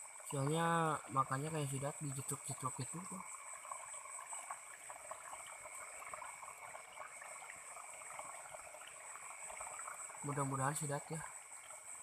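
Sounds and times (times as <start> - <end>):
night insects trilling: 0.0 - 12.0
water trickling and crackling: 0.0 - 12.0.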